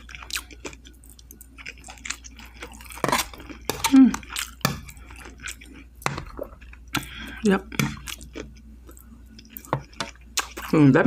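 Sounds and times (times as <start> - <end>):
chewing: 0.0 - 10.8.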